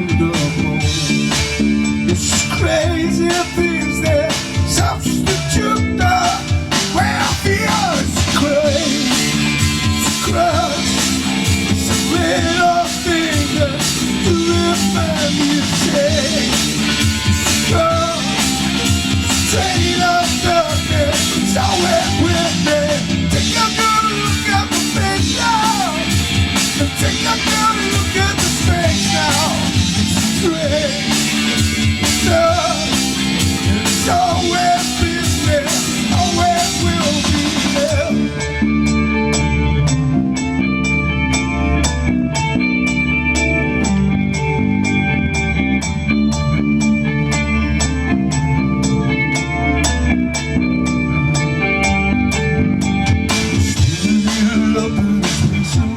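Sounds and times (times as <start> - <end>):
drums: 0.0 - 55.9
electric guitar: 0.0 - 55.9
sung melody: 0.0 - 55.9.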